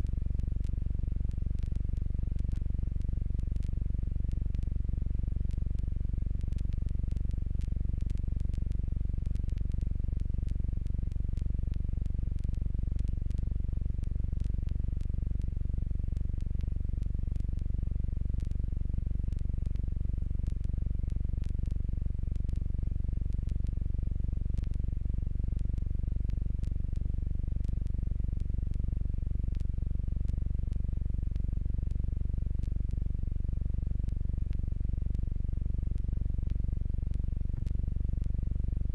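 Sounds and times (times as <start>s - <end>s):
faint clicks: 0.0s - 38.9s.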